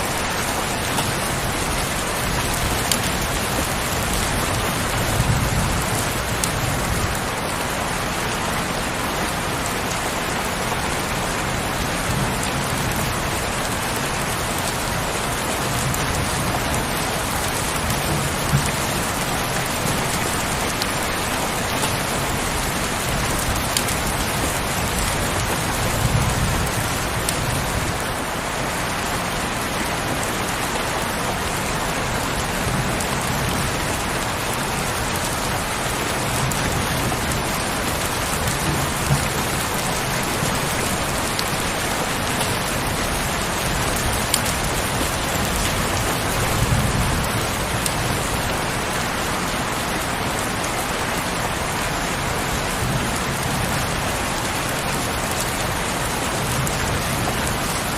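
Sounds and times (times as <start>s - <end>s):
heavy rain hissing: 0.0s - 57.9s.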